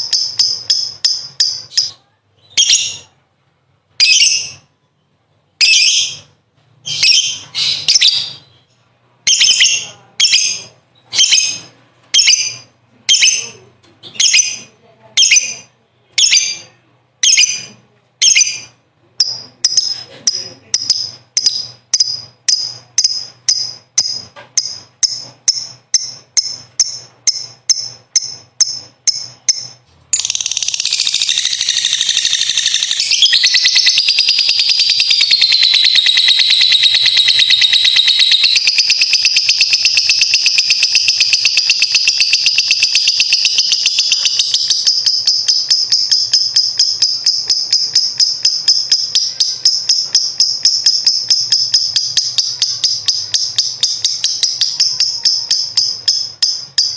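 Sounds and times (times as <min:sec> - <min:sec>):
lovebird chirping and trilling: 0:00.0 - 0:03.2, 0:03.9 - 0:04.7, 0:05.5 - 0:56.9.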